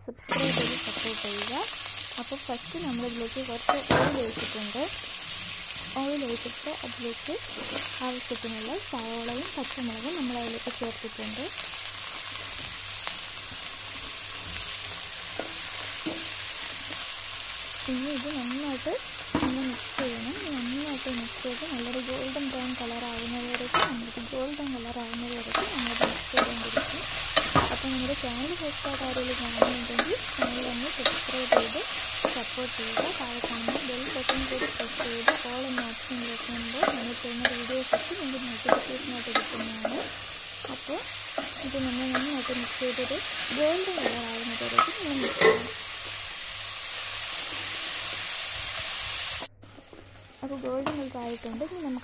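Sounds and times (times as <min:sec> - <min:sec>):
onions sizzling in hot oil: 0:00.3 - 0:52.0.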